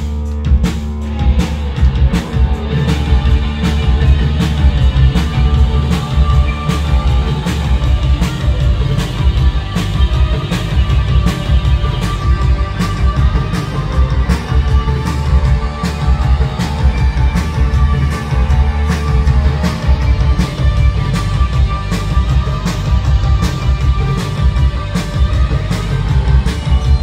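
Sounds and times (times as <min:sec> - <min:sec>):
live rock band: 0:00.0 - 0:27.0
steady drumbeat: 0:00.0 - 0:27.0.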